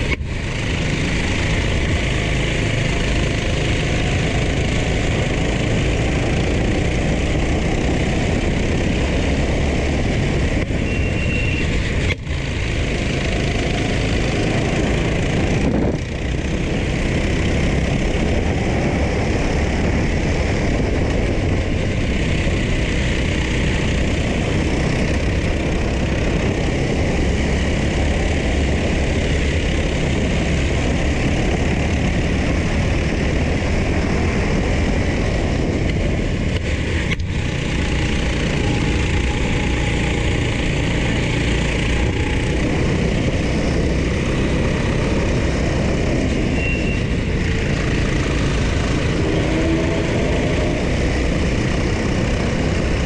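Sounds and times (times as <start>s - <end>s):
go-kart engine running hard: 0.0s - 53.0s
wind rushing over microphone: 0.0s - 53.0s.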